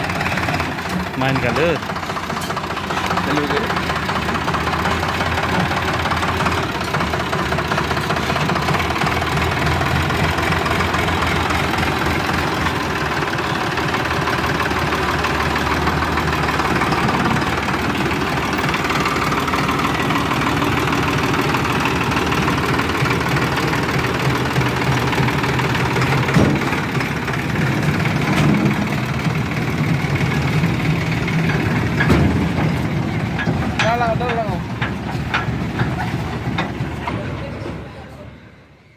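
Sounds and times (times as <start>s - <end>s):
tractor diesel engine knocking: 0.0s - 38.2s.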